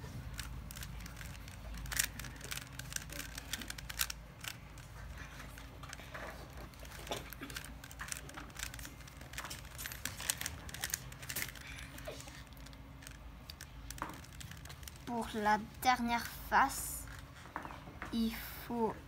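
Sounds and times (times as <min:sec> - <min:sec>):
plastic puzzle cube clicking: 0:00.0 - 0:17.2.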